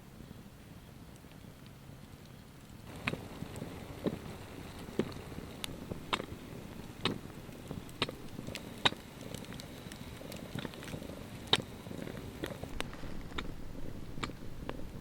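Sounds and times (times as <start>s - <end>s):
low steady rumble: 0.0s - 15.0s
campfire crackling and popping: 0.1s - 15.0s.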